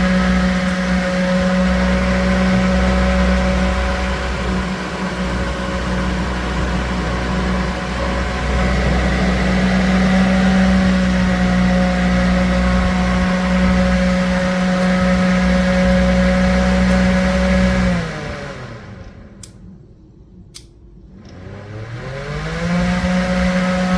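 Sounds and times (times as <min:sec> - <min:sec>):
table fan humming: 0:00.0 - 0:19.8, 0:21.2 - 0:23.9.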